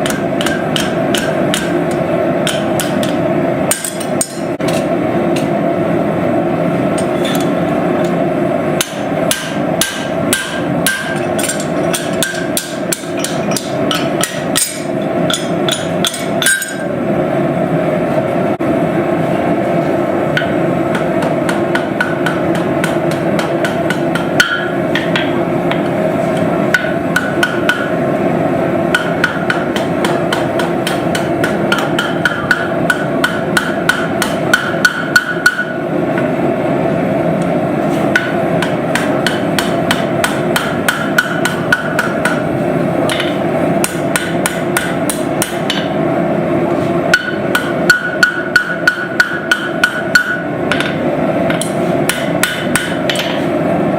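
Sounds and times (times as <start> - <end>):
hammer striking steel on anvil: 0.0 - 5.6, 7.0 - 8.2, 8.8 - 17.0, 20.3 - 28.1, 28.9 - 36.3, 38.1 - 46.0, 47.1 - 53.5.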